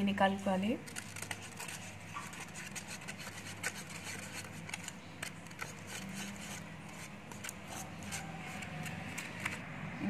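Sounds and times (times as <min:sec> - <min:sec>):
stick scraping and tapping cup: 0:00.9 - 0:09.6.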